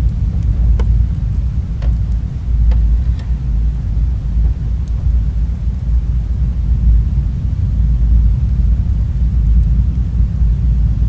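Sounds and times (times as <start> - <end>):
faint fire crackles: 0.0 - 11.0
fire flame rumble: 0.0 - 11.0.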